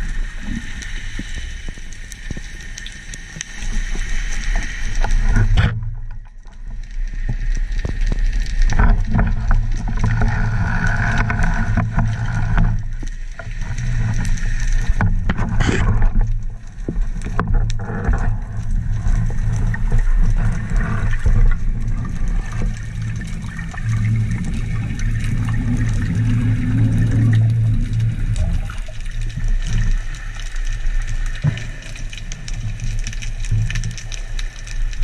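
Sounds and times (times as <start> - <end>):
underwater water rumble: 0.0 - 35.0.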